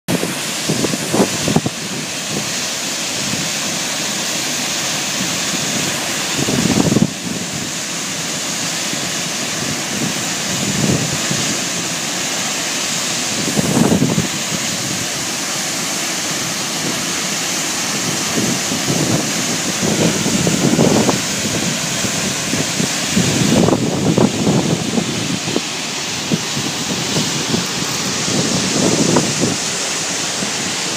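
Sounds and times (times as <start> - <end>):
wind gusts on microphone: 0.1 - 2.6, 5.2 - 7.8, 8.6 - 12.0, 13.2 - 15.4, 16.4 - 30.9
waterfall rushing: 0.1 - 30.9.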